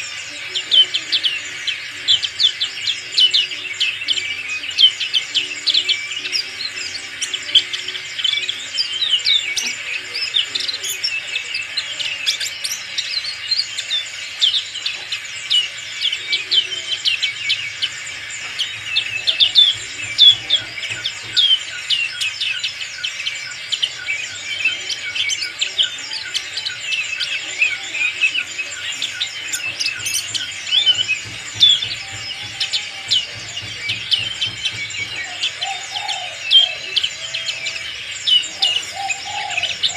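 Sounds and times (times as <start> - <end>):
bird twittering and whistling: 0.0 - 39.9.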